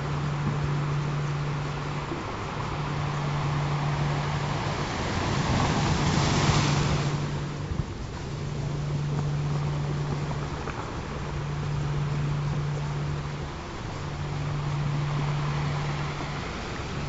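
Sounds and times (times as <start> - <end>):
low steady tone: 0.0 - 17.0
ocean surf rushing: 0.0 - 17.0.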